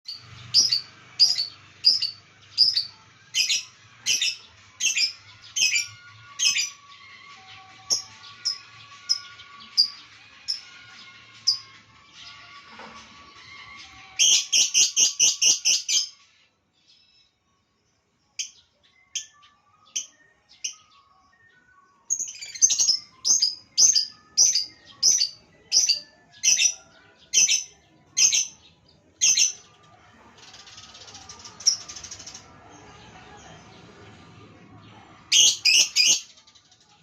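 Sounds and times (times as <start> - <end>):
bird chirping: 0.0 - 13.1, 18.2 - 34.0, 34.9 - 37.0.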